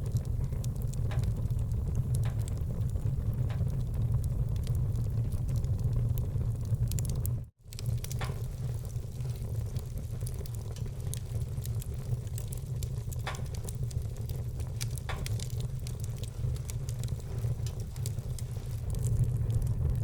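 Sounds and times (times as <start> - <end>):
loud fire pops: 0.0 - 20.0
low fire rumble: 0.0 - 20.0
wood fire crackling: 0.0 - 20.0.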